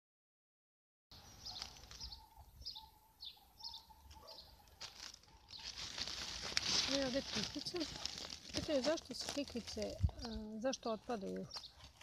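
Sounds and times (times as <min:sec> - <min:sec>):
small birds chirping faintly: 0:01.2 - 0:12.0.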